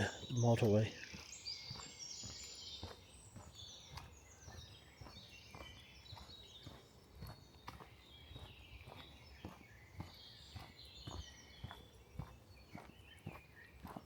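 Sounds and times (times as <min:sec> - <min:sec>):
woodland birds singing: 0:00.0 - 0:14.0
soft footsteps: 0:00.4 - 0:14.0.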